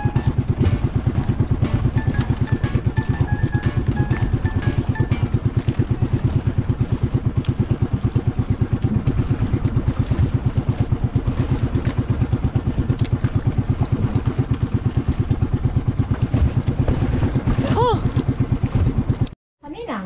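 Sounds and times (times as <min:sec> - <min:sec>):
boat engine thudding: 0:00.0 - 0:19.4.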